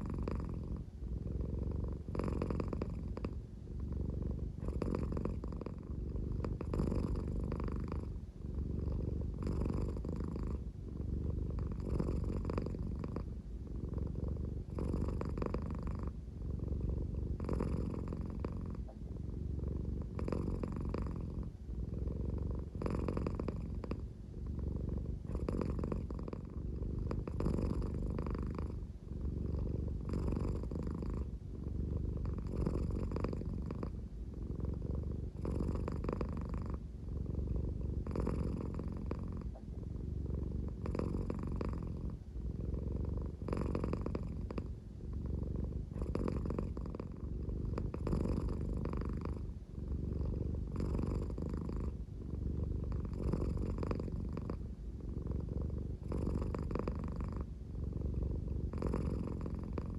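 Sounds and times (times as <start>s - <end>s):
cat purring deeply: 0.0s - 59.9s.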